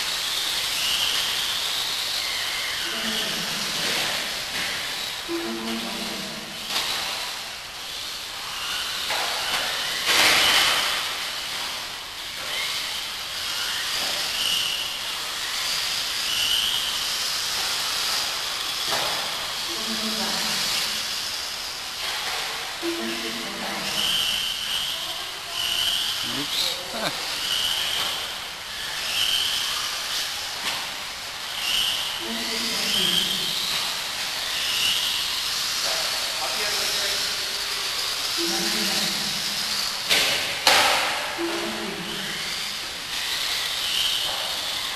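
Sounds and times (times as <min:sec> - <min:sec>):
rc car motors whining: 0:00.0 - 0:44.9.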